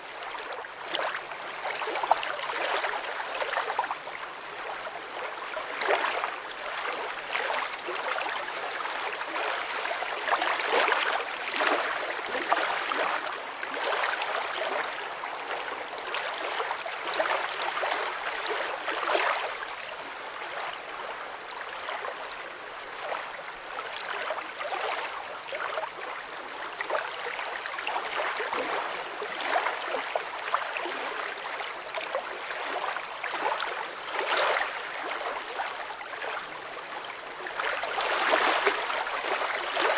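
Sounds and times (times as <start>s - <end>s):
water flowing with gurgles: 0.0s - 39.9s.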